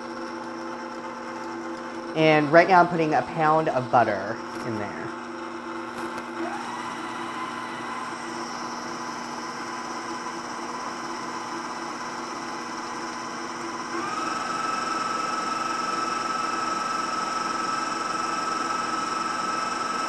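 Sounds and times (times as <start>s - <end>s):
stand mixer motor whining: 0.0s - 3.5s, 4.3s - 20.0s.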